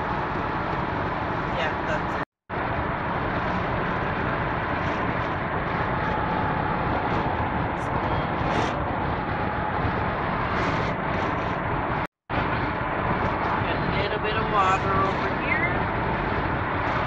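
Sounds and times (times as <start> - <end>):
van cabin driving noise: 0.0 - 17.0.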